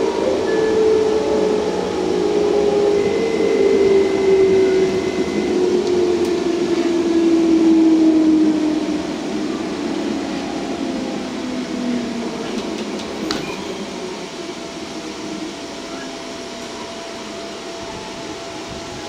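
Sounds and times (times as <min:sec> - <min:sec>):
electric train running noise: 0:00.0 - 0:19.0.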